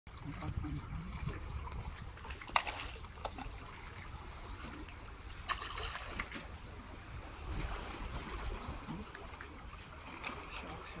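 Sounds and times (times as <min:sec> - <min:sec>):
water splashing: 0:00.1 - 0:11.0.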